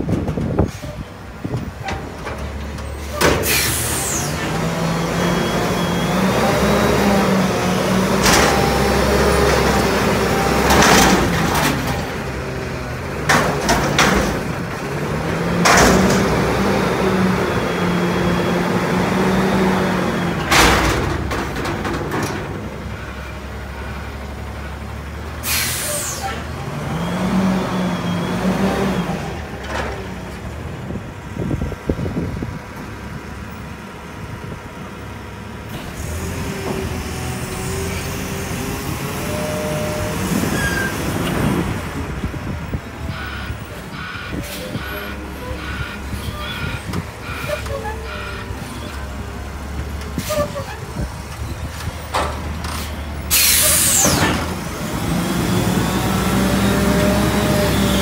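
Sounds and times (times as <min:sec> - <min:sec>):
diesel engine revving: 0:00.2 - 0:58.0.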